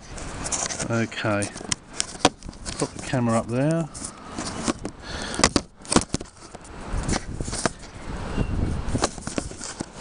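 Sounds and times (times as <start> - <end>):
camera handling knocks and scrapes: 0.0 - 8.0, 8.9 - 10.0.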